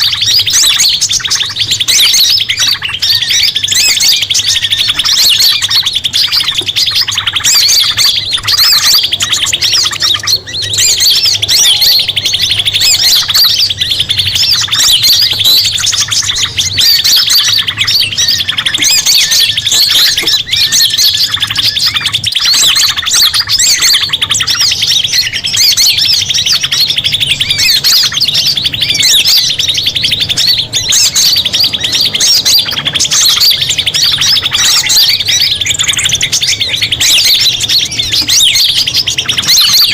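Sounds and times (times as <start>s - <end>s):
rapid bird trill: 0.0s - 39.9s
songbirds chirping and twittering: 0.0s - 39.9s.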